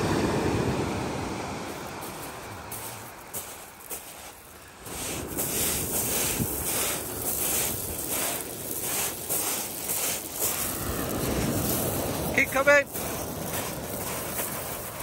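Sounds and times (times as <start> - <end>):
footsteps crunching on shingle: 2.0 - 15.0.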